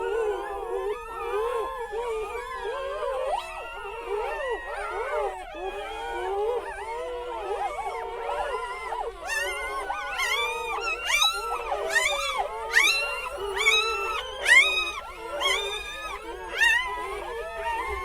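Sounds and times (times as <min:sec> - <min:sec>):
puppies whining and squealing: 0:00.0 - 0:18.0.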